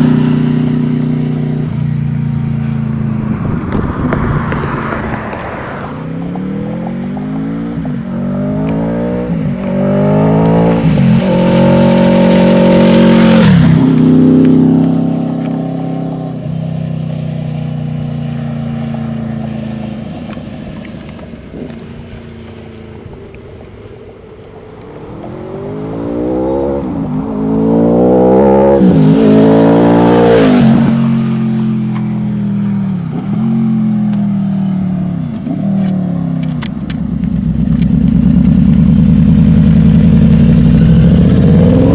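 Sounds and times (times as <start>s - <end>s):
motorcycle accelerating through gears: 0.0s - 41.9s.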